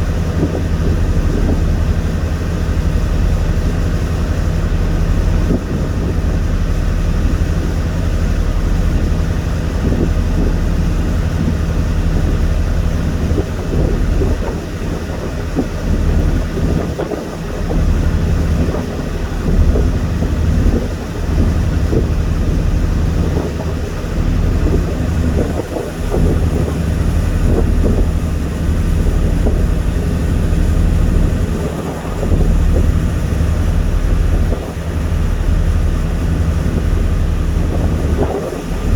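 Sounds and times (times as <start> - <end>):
ship engine drone: 0.0 - 38.9
wind rumbling on microphone: 0.0 - 38.9.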